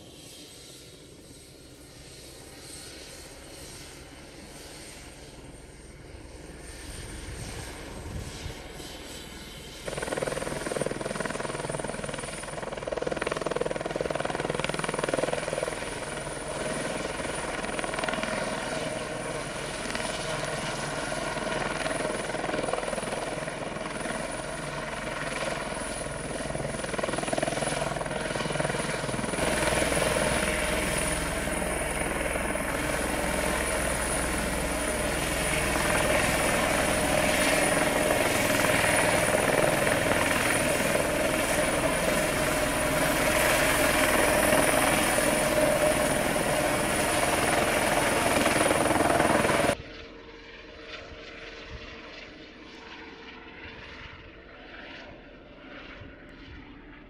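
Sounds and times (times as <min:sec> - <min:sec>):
helicopter rotor beat: 0:00.0 - 0:57.0
helicopter turbine whine: 0:00.0 - 0:57.0.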